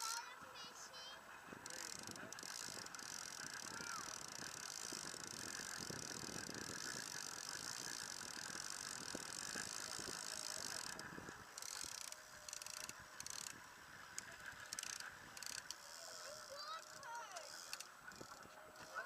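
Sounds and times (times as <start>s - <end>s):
fishing reel ratchet clicking: 1.6s - 19.0s.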